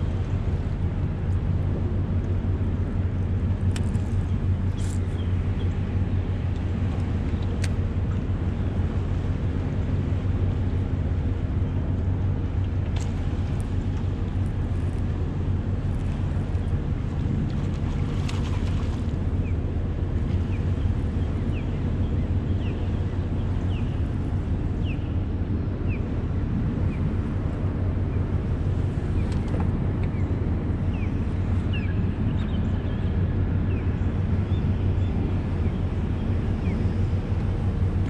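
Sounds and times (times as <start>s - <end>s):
boat motor humming: 0.0s - 38.0s.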